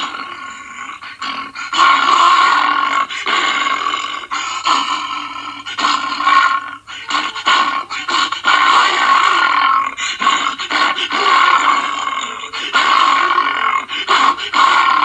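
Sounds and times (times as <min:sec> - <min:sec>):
cartoon bear growling and roaring: 0:00.0 - 0:15.0.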